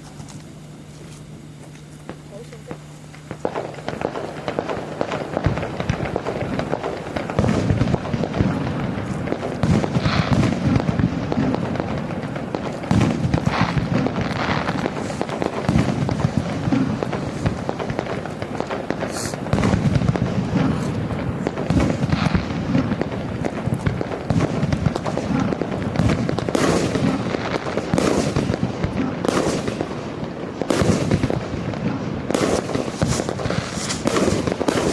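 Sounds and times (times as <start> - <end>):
fireworks crackling: 0.0 - 34.9.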